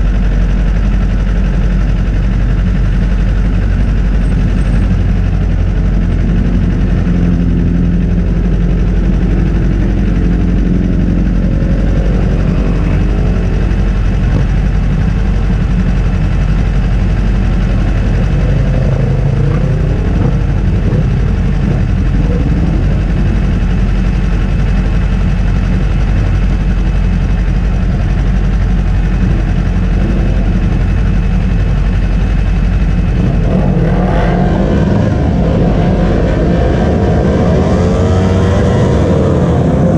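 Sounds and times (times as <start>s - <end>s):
motorcycle engine running: 0.0s - 39.9s
other engines revving: 0.0s - 39.9s.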